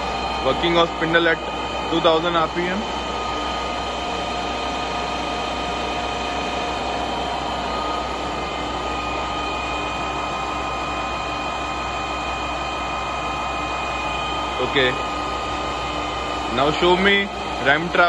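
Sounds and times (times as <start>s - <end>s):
constant hum: 0.0s - 18.0s
milling machine whine: 0.0s - 18.0s.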